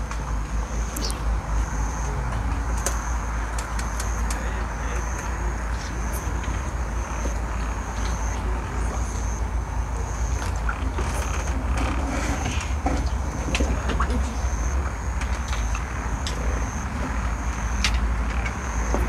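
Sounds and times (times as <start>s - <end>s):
steady low rumble: 0.0s - 19.0s
insect trilling: 0.6s - 19.0s.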